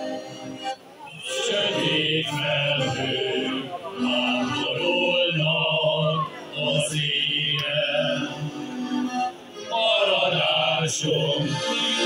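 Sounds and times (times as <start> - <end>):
men's choir singing: 1.2 - 12.0.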